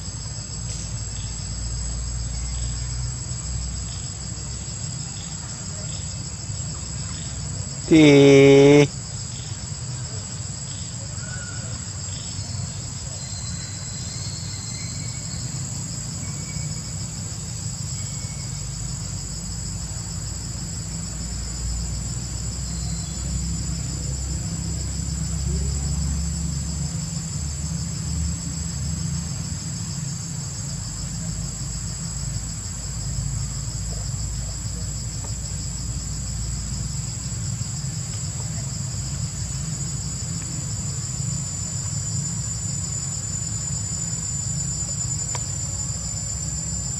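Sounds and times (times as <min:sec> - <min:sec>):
shrill insect chorus: 0:00.0 - 0:46.9.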